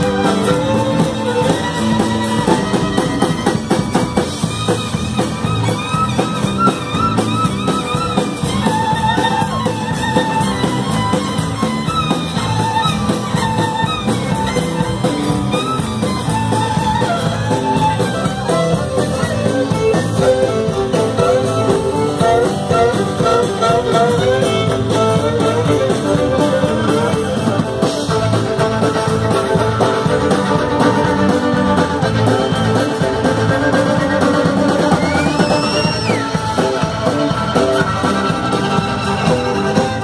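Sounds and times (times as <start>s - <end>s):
bodhran drum: 0.0s - 40.0s
drum kit: 0.0s - 40.0s
electric bass: 0.0s - 40.0s
fiddle melody: 0.0s - 40.0s
guitar: 0.0s - 40.0s.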